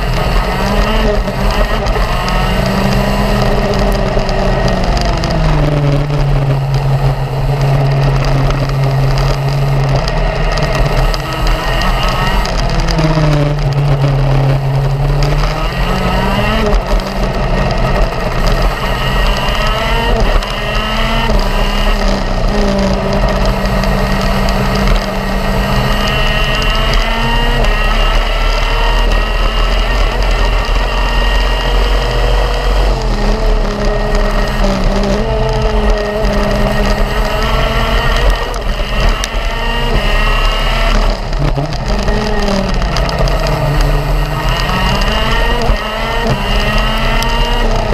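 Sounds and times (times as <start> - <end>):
kart engine revving: 0.0 - 47.9
track rumble: 0.0 - 47.9
wind: 0.0 - 47.9.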